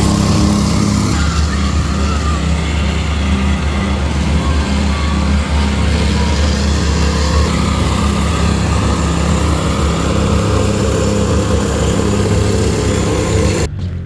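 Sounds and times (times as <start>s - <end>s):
diesel excavator engine running: 0.0s - 14.0s.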